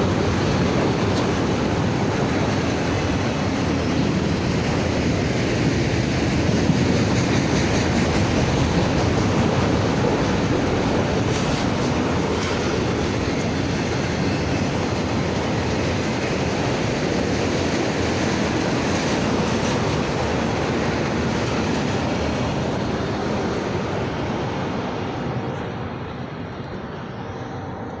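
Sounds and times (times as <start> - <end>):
freight train wheels rumbling on track: 0.0 - 28.0.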